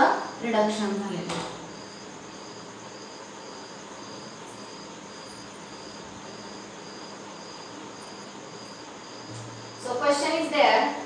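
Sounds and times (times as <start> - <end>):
background hiss: 0.0 - 11.0
cricket chirping: 0.0 - 11.0.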